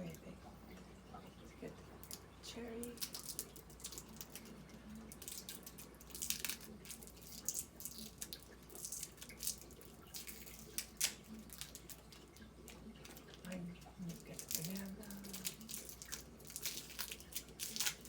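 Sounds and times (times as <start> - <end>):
candy wrappers crinkling: 2.0 - 18.0.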